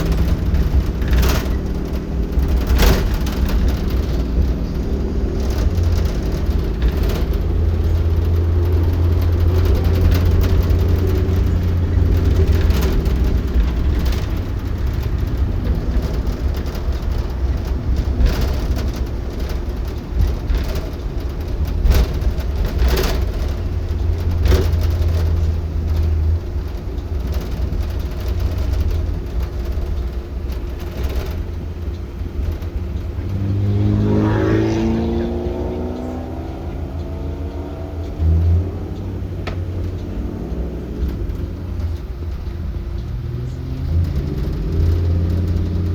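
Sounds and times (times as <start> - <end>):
bus engine rumbling: 0.0 - 45.9
sharp knocks and rattles: 0.0 - 45.9.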